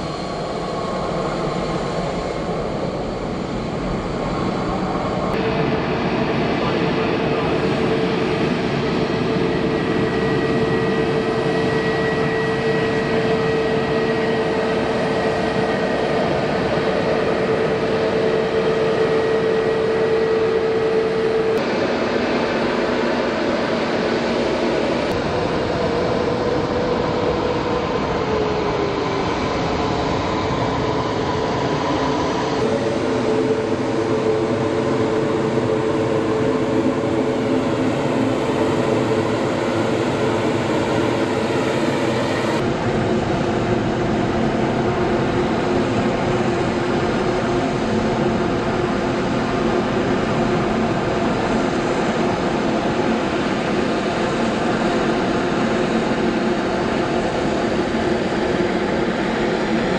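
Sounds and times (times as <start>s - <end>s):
jet engines droning: 0.0s - 59.9s.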